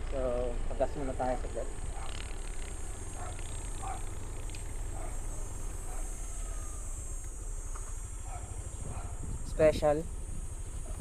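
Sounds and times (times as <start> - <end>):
constant high hiss: 0.0 - 11.0
motorcycle engine rumbling: 0.0 - 11.0.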